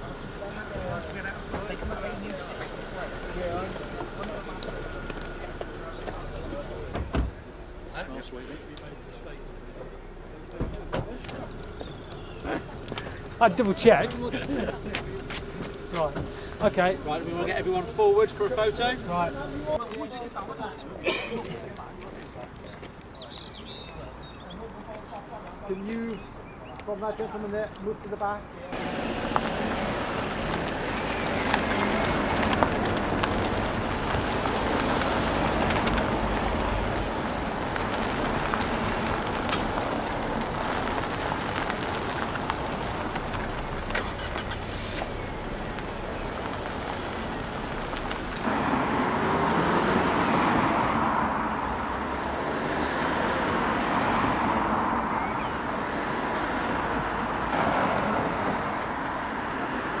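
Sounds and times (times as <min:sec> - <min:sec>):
cars driving past: 0:00.0 - 0:21.0, 0:28.2 - 1:00.0
outdoor traffic noise: 0:00.0 - 1:00.0.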